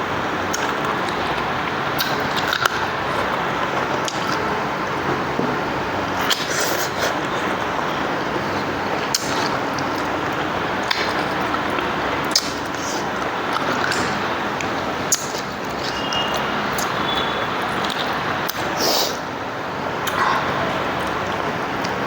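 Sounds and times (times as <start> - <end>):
steady background noise: 0.0 - 22.0
chewing and squishing: 0.4 - 5.3, 5.9 - 18.7, 20.0 - 22.0.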